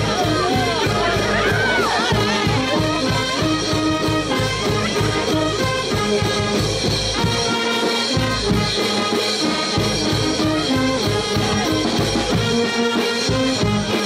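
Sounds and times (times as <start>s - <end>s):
brass band playing: 0.0s - 14.0s
percussion beat: 0.0s - 14.0s.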